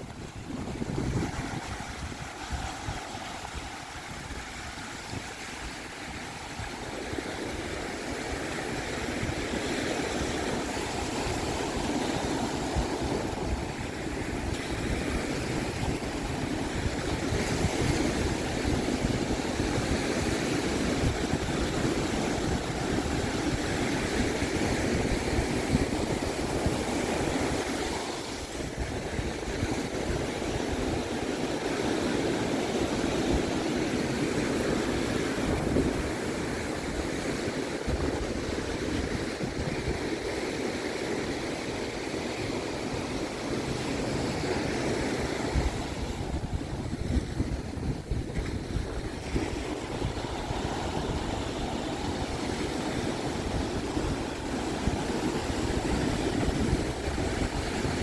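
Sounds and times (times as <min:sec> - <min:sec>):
surf washing up sandy beach: 0:00.0 - 0:58.0
wind rumbling on microphone: 0:00.0 - 0:58.0.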